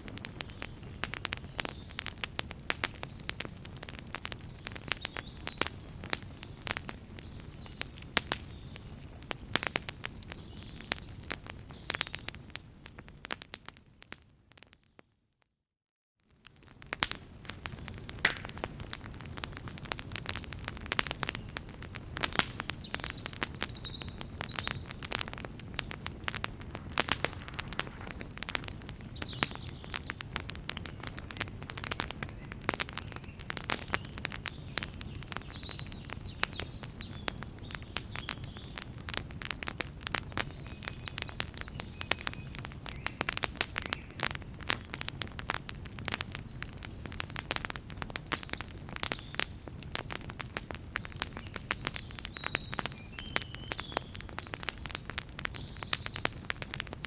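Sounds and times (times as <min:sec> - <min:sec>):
wood campfire crackling: 0:00.0 - 0:14.9, 0:16.2 - 0:57.0.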